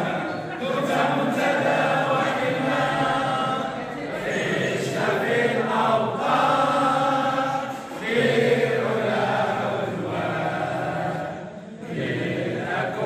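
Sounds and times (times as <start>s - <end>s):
group chanting in unison: 0.0s - 13.0s.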